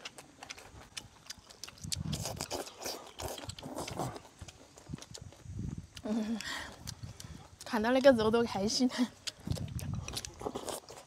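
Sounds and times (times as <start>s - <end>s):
wet lip-smacks and mouth clicks: 0.0s - 8.1s, 9.2s - 11.0s
chewing food: 0.0s - 11.0s.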